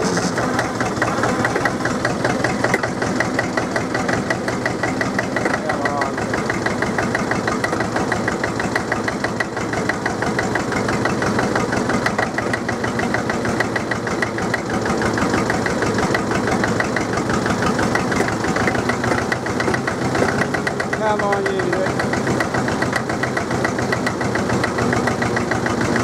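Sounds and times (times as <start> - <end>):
diesel engine knocking: 0.0 - 26.0.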